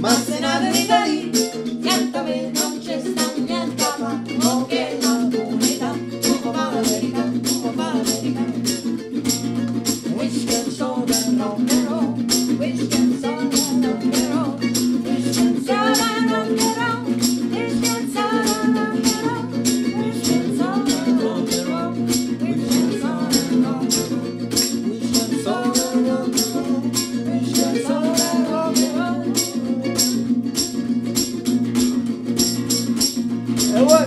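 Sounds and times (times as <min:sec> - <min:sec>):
man singing along: 0:00.0 - 0:08.8, 0:10.0 - 0:30.1, 0:33.6 - 0:34.0
woman singing: 0:00.0 - 0:08.9, 0:09.9 - 0:30.2
mandolin: 0:00.0 - 0:34.0
steady percussive beat: 0:00.0 - 0:34.0
strummed acoustic guitar: 0:00.0 - 0:34.0.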